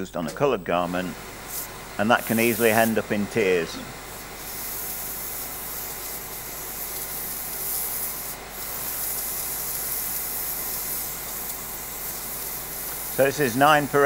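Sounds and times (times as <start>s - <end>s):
spotting gun hissing: 0.2s - 14.0s.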